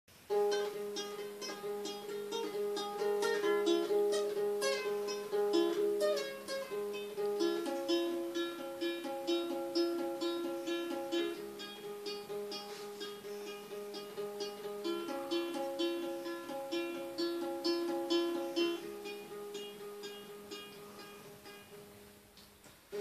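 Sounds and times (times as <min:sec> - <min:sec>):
acoustic plucked string instrument: 0:00.2 - 0:23.0.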